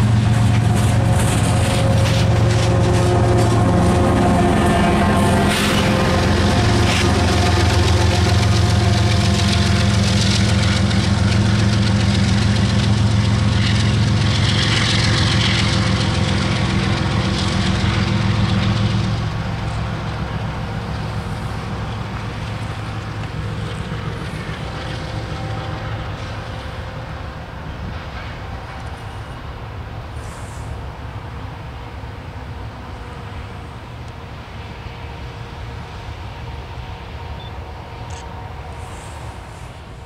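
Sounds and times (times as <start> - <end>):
diesel locomotive engine drone: 0.0 - 40.0
rail noise: 0.0 - 40.0.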